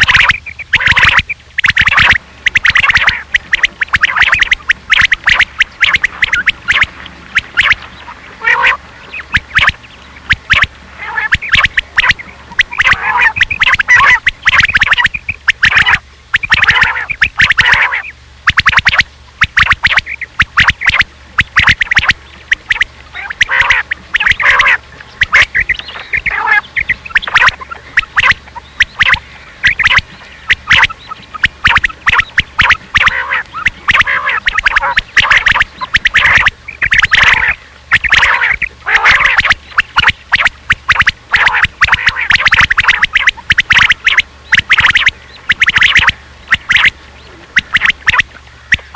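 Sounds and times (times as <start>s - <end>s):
quail calling: 0.0s - 48.9s.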